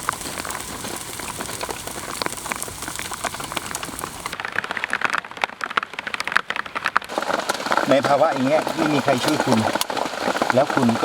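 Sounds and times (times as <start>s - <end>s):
rain hiss: 0.0s - 5.0s, 7.1s - 11.0s
raindrops hitting close by: 0.0s - 11.0s.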